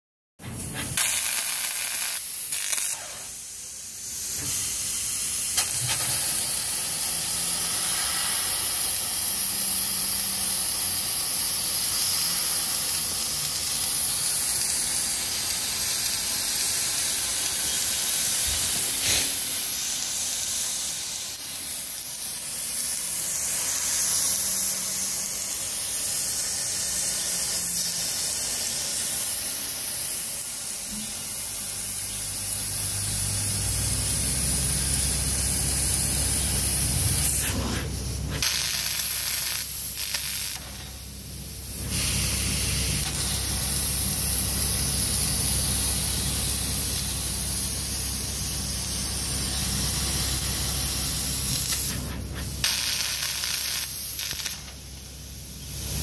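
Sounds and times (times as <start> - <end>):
laser cutter gas hiss: 0.4 - 56.0.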